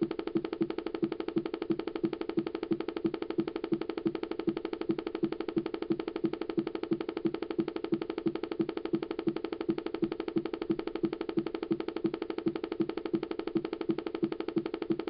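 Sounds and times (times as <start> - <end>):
computer pulsing hum: 0.0 - 15.0.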